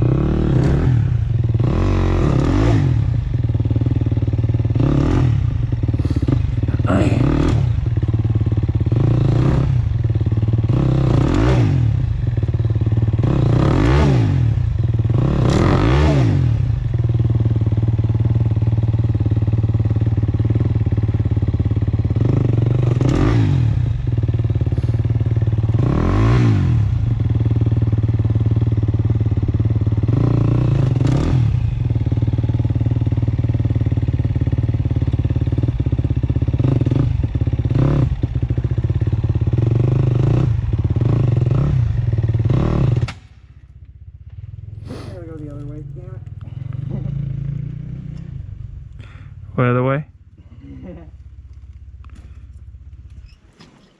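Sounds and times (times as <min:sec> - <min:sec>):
dirt bike engine revving: 0:00.0 - 0:33.1, 0:36.6 - 0:43.2, 0:44.7 - 0:45.4, 0:46.4 - 0:49.3.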